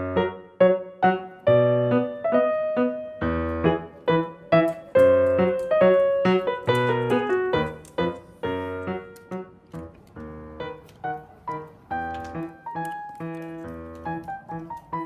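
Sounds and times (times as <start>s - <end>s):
bouncy electric piano tune: 0.0s - 15.0s.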